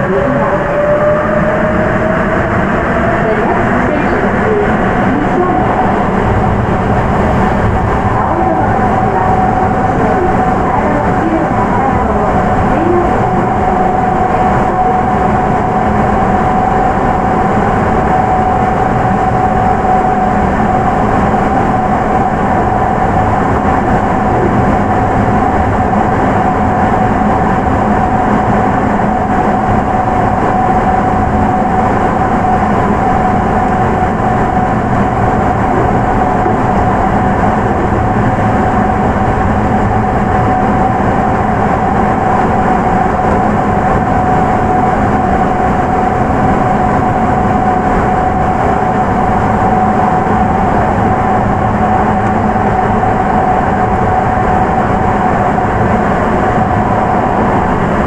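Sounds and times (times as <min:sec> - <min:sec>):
steady train motor whine: 0:00.0 - 0:58.0
train rumbling in tunnel: 0:00.0 - 0:58.0.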